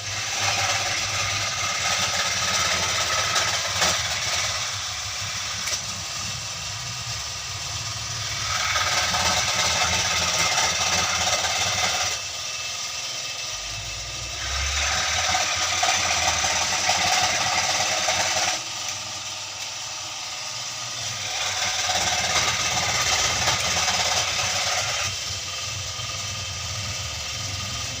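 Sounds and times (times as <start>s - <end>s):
machine motor running under load: 0.0s - 28.0s.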